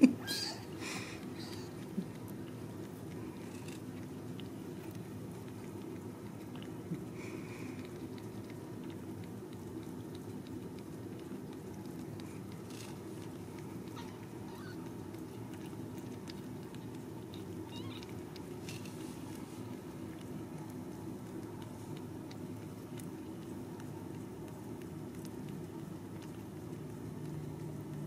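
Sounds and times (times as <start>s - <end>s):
kittens suckling: 0.2s - 28.0s.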